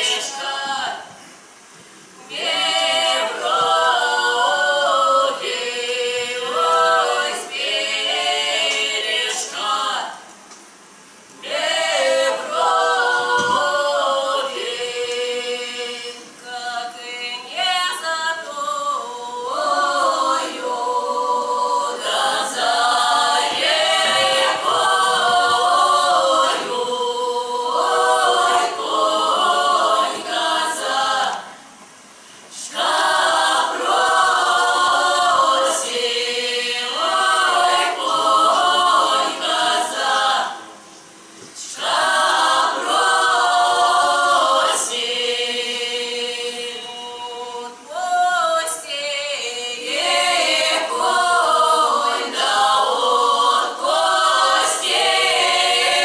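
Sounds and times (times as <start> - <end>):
folk choir singing a cappella: 0.0 - 1.4, 2.2 - 10.4, 11.3 - 56.0.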